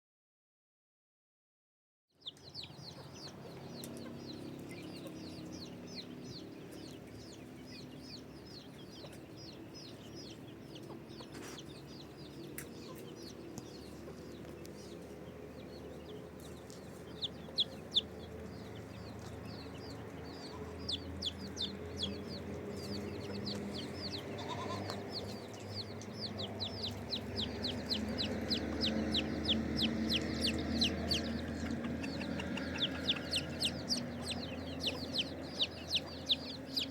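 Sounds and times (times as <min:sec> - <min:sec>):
chickens clucking: 0:02.2 - 0:36.9.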